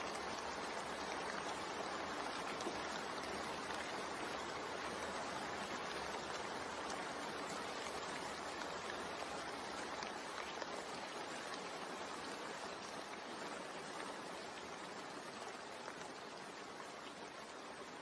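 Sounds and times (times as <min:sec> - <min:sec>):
steady rain hissing: 0:00.0 - 0:18.0.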